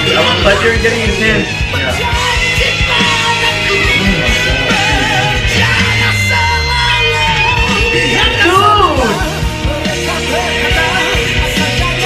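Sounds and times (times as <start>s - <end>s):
hard rock song: 0.0s - 12.0s
man singing: 0.0s - 12.0s
sliding bass line: 0.0s - 12.0s.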